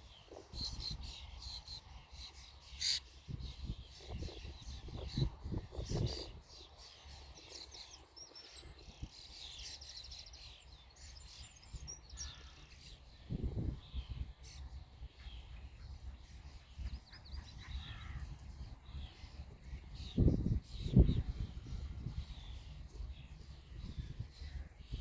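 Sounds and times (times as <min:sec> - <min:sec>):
birds chirping and trilling: 0:00.0 - 0:25.0.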